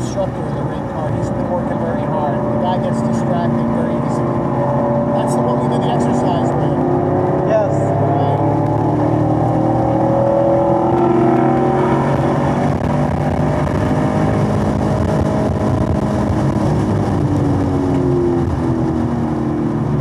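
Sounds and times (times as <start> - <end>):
car engine at full throttle: 0.0 - 20.0.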